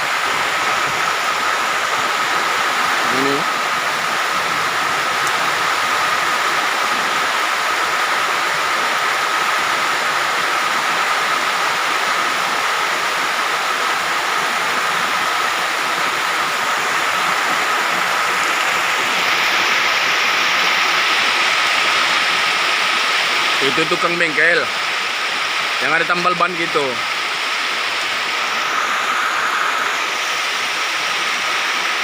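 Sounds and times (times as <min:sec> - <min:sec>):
heavy rain hissing: 0:00.0 - 0:32.0.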